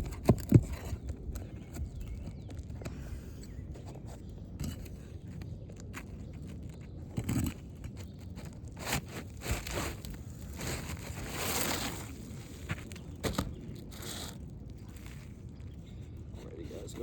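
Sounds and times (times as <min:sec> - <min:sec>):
roof shingles scraping and crunching: 0:00.0 - 0:17.0.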